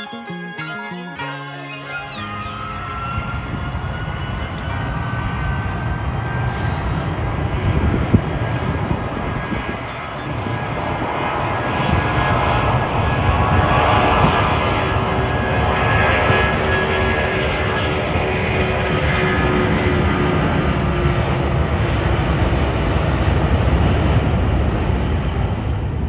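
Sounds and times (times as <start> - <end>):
airliner engines rumbling and whining: 0.0 - 26.0.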